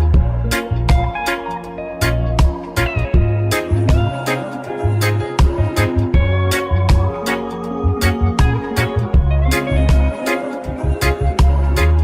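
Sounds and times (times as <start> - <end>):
bass line: 0.0 - 12.0
guitar: 0.0 - 12.0.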